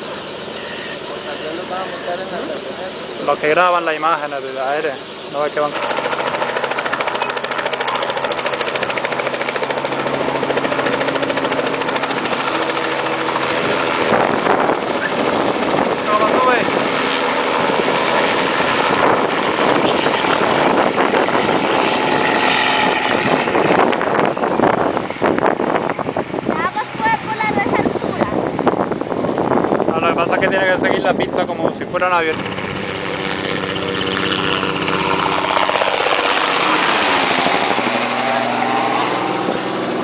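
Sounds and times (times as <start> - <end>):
helicopter rotor beating: 0.0 - 40.0.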